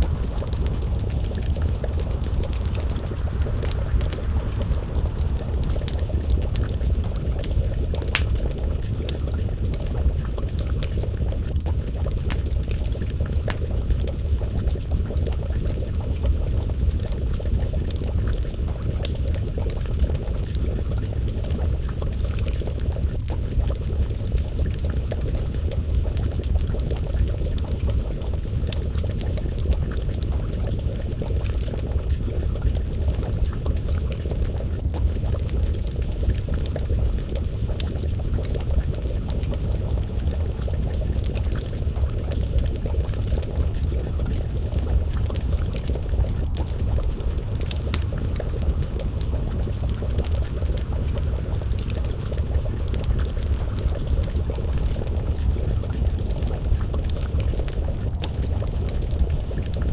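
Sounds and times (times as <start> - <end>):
stew pot bubbling: 0.0 - 59.9
wood fire crackling and popping: 0.0 - 59.9.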